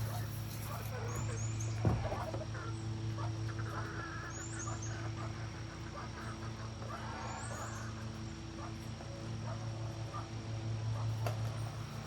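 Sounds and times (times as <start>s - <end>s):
poultry calling: 0.0s - 10.3s
steady low hum: 0.0s - 12.0s.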